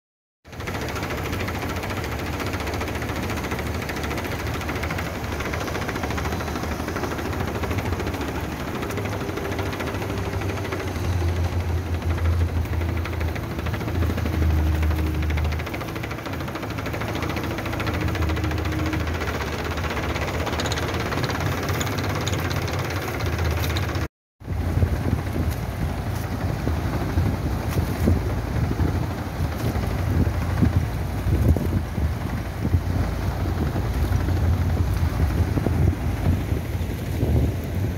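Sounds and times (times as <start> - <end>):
boat engine humming: 0.5 - 37.9.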